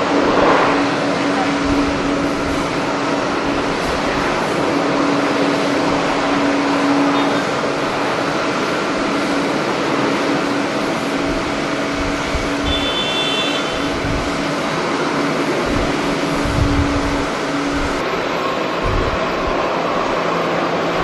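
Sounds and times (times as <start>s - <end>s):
jet engine hum: 0.0s - 21.0s
wind buffeting microphone: 0.0s - 21.0s.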